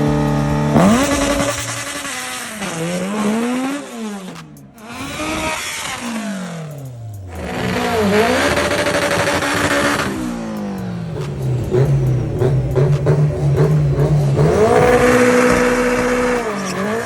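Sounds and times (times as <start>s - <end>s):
car engines revving: 0.0s - 17.0s
engine crackling pops: 0.7s - 17.0s.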